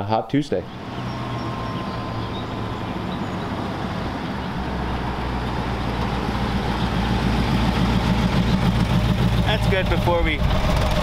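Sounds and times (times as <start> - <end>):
car engine rumbling: 0.5 - 11.0.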